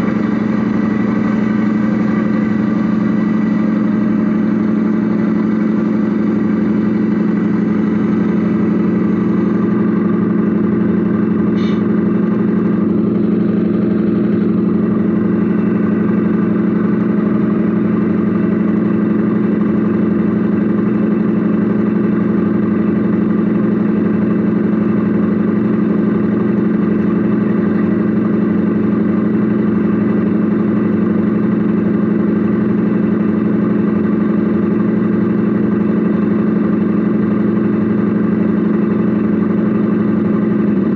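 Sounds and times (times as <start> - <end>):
steady low engine-like drone: 0.0 - 40.9.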